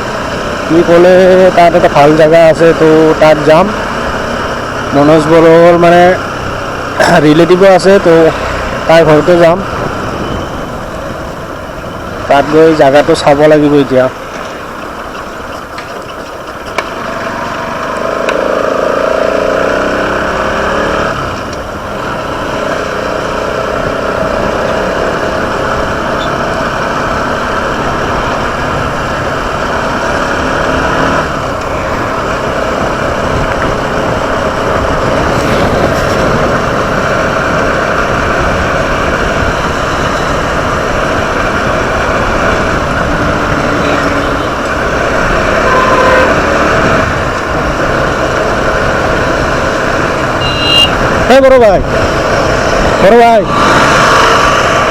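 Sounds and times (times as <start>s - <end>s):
motorcycle engine running: 0.0s - 12.5s, 14.2s - 54.9s
road noise: 0.0s - 54.9s.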